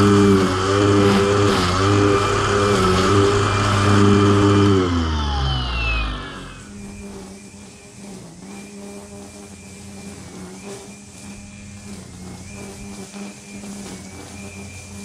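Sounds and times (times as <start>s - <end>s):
power equipment motor running: 0.0s - 15.0s.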